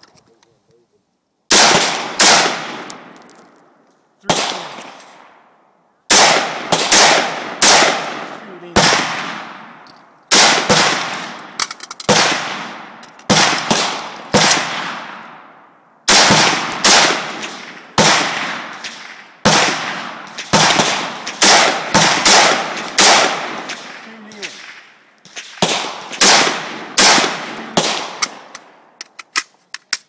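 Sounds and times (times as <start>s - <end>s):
rifle shots echoing: 1.5s - 28.9s.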